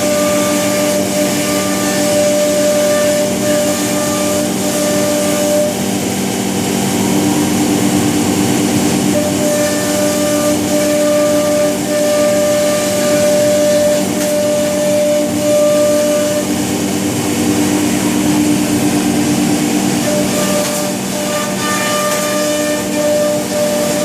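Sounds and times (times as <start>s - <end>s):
router whine: 0.0s - 24.0s.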